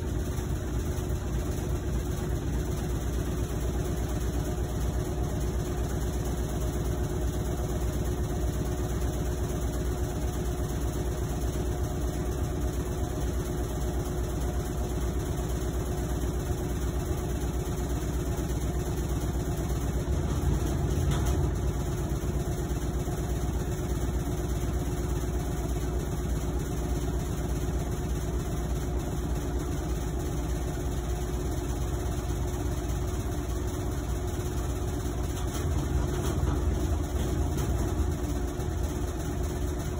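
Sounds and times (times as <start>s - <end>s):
washing machine rumbling: 0.0s - 39.9s.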